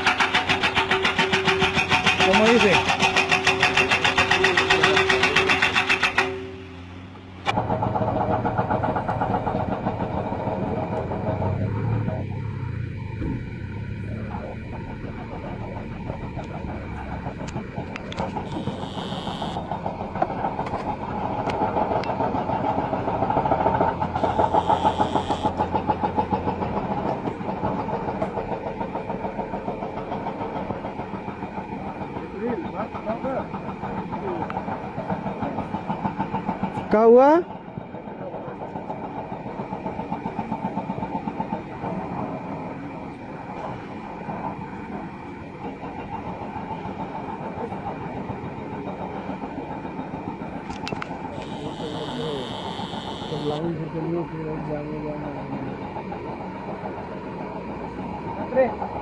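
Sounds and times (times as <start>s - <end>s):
pulsing diesel engine: 0.0s - 59.0s.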